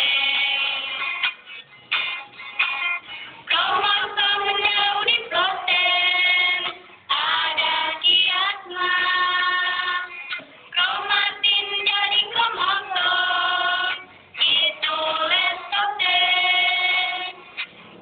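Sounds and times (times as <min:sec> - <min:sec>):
group singing: 0:00.0 - 0:01.4, 0:03.4 - 0:17.8
acoustic guitar: 0:00.0 - 0:18.0.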